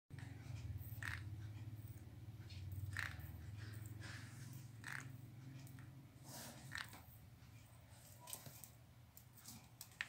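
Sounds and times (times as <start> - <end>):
low steady hum: 0.1 - 10.0.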